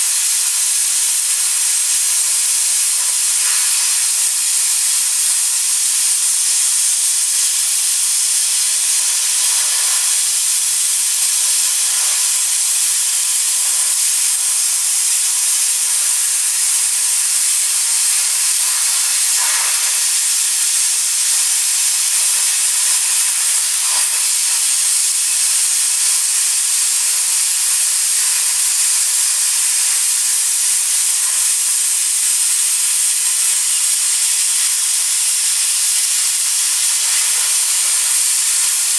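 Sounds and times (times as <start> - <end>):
plasma cutter hissing: 0.0 - 38.9.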